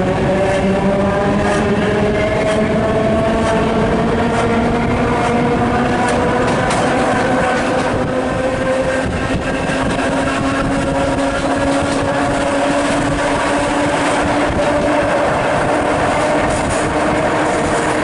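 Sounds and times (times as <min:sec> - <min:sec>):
electric train hum rising: 0:00.0 - 0:18.0
train wheels rumbling on rails: 0:00.0 - 0:18.0.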